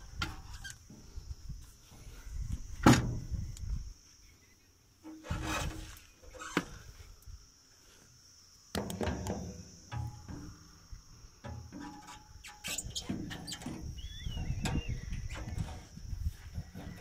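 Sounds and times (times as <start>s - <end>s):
steady high hiss: 0.0s - 16.6s.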